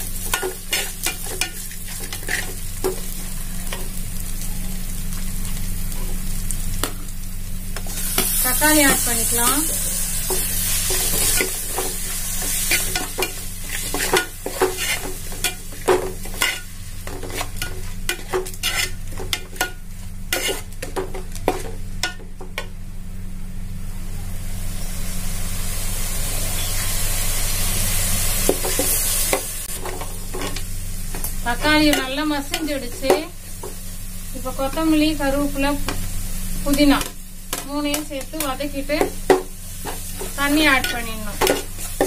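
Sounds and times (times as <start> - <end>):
vegetables sizzling in hot oil: 0.0 - 22.2, 24.0 - 42.0.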